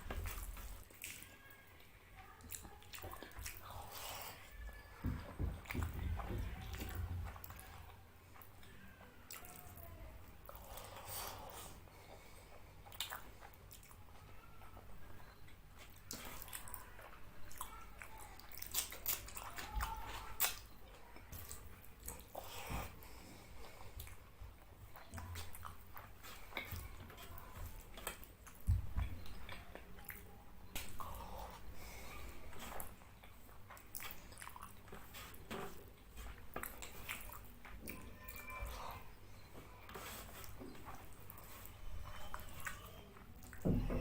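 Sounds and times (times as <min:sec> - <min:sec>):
person chewing with wet smacks: 0:00.0 - 0:43.7.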